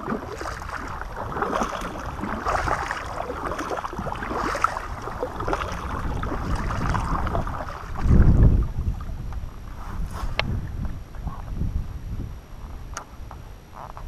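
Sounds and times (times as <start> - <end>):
paddle blades splashing: 0.0 - 11.4
water sloshing along hull: 0.0 - 14.0
wind rumbling on microphone: 0.0 - 14.0.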